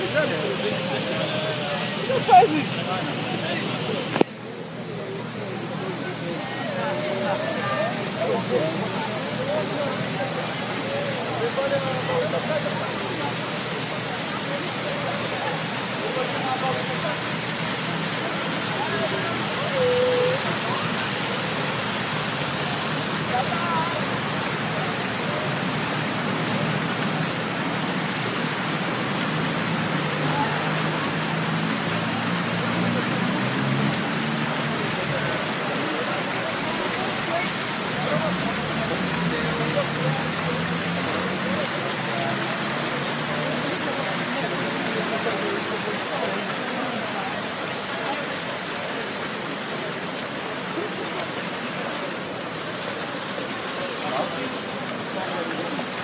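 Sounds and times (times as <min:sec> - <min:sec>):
chatter of people: 0:00.0 - 0:56.0
fountain water falling into basin: 0:00.0 - 0:56.0.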